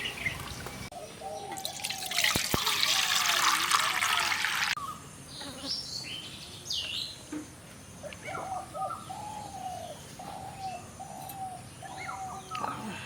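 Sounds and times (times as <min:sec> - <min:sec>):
birds chirping: 0:00.0 - 0:03.3, 0:04.6 - 0:13.0.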